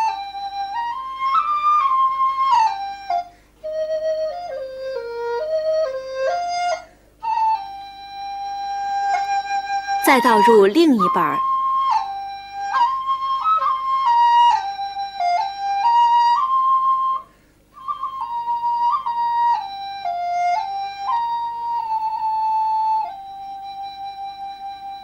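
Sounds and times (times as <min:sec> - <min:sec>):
solo flute melody: 0:00.0 - 0:25.0.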